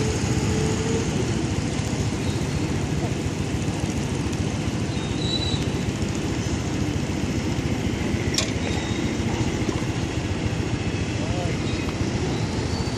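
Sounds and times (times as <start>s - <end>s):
engine running: 0.0s - 12.9s.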